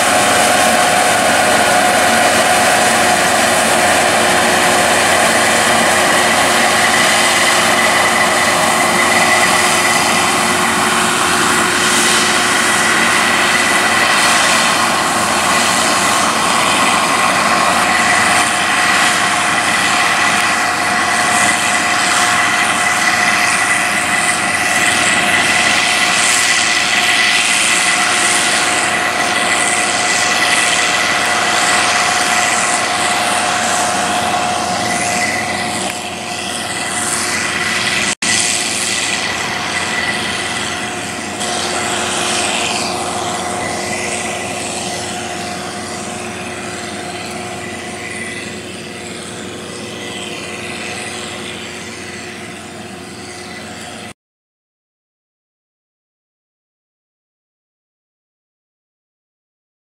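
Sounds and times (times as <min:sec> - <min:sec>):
combine harvester droning with whine: 0:00.0 - 0:54.2.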